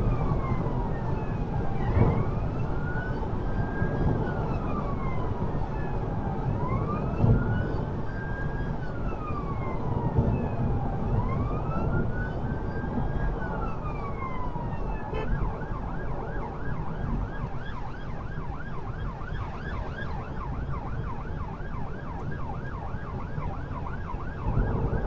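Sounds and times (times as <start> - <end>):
road and engine noise: 0.0 - 25.0
siren wailing: 0.0 - 25.0.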